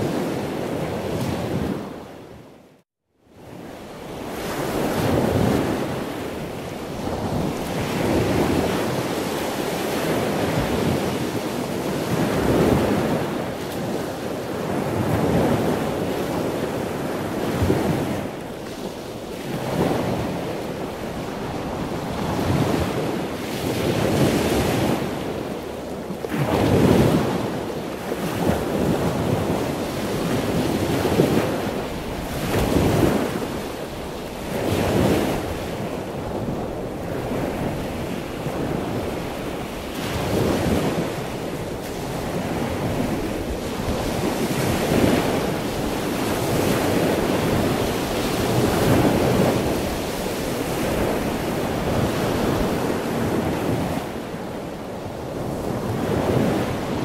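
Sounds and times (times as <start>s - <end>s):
wind buffeting microphone: 3.4s - 57.0s.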